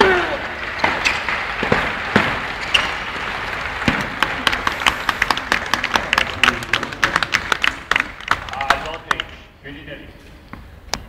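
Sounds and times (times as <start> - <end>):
crowd applauding: 0.0 - 9.5.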